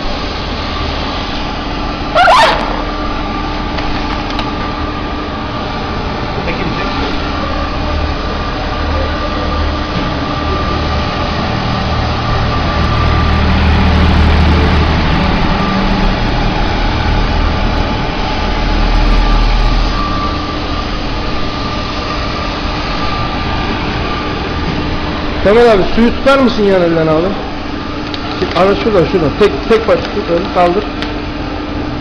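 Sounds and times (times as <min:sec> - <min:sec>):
packaging machine humming and whining: 0:00.0 - 0:32.0.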